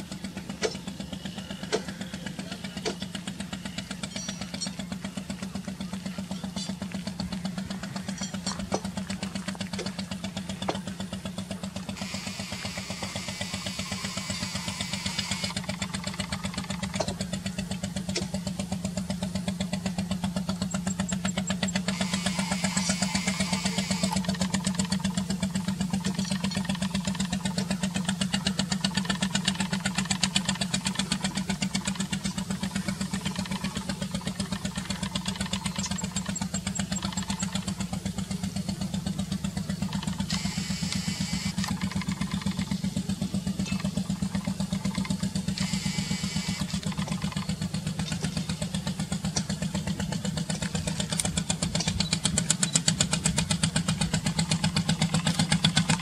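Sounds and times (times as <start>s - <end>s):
diesel boat engine chugging: 0.0s - 56.0s.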